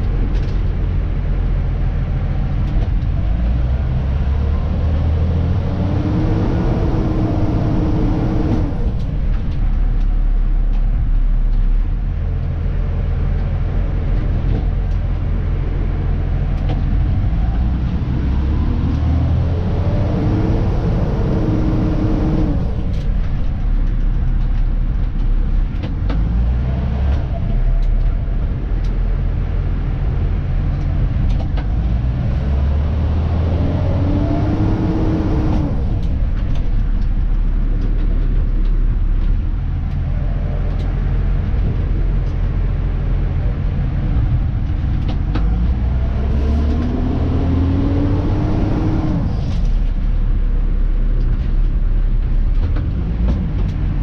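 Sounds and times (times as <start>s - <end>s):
light rattles and clicks: 0.0s - 5.7s, 6.9s - 54.0s
diesel truck engine rumbling: 0.0s - 54.0s.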